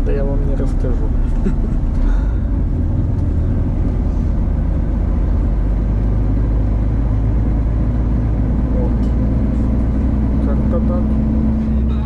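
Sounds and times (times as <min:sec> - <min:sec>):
road noise inside cab: 0:00.0 - 0:12.0
truck engine drone: 0:00.0 - 0:12.0.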